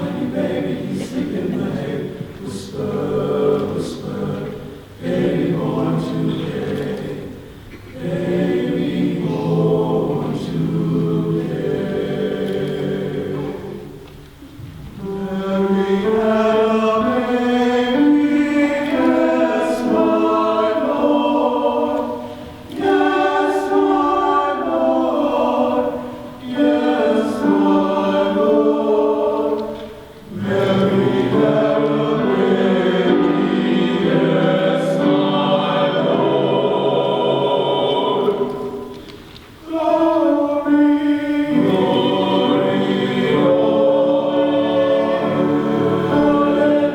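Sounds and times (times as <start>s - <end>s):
men's chorus singing: 0.0s - 14.0s, 15.0s - 39.0s, 39.6s - 46.9s.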